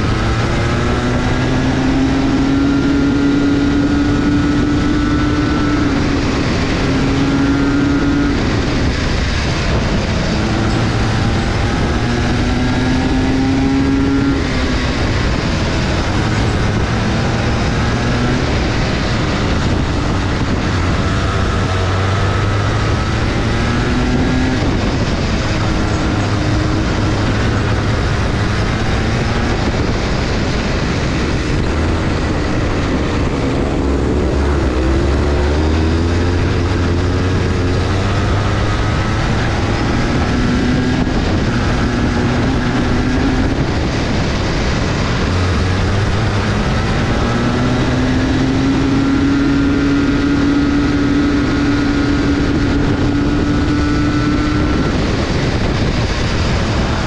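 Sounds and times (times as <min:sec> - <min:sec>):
go-kart engine revving: 0:00.0 - 0:57.0
wind and track noise: 0:00.0 - 0:57.0.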